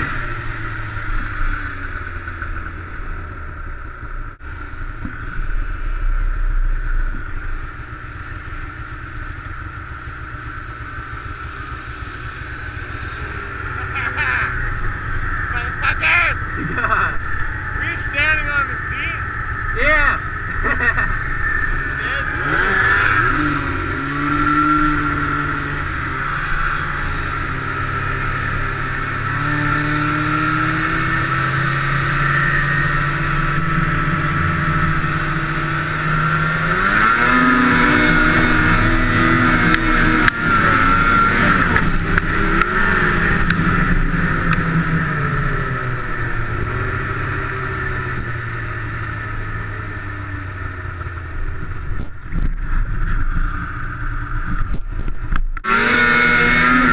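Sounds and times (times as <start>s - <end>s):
snowmobile engine revving: 0.0s - 51.7s, 55.6s - 56.9s.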